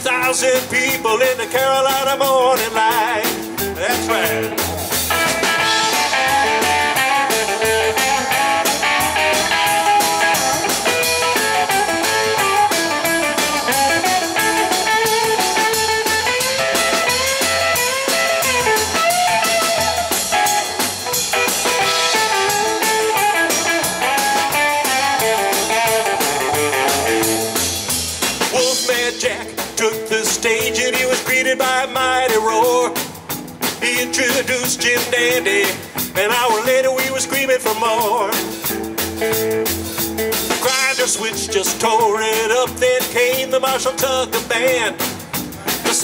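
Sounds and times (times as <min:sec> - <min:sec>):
drum-kit beat: 0:00.0 - 0:46.0
electric guitar lead line: 0:00.0 - 0:46.0
upright bass: 0:00.0 - 0:46.0.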